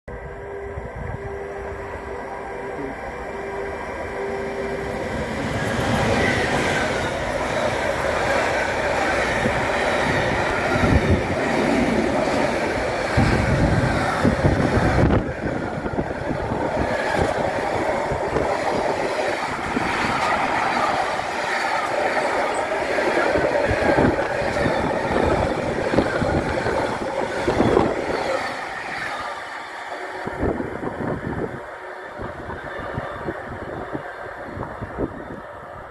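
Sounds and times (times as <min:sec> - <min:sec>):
freight train wheels on rails: 0:00.2 - 0:35.9.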